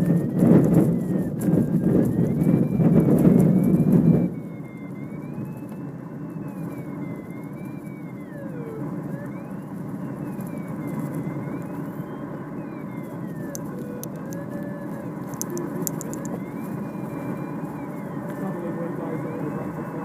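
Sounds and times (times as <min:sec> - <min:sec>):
tow plane engine: 0:00.0 - 0:20.0.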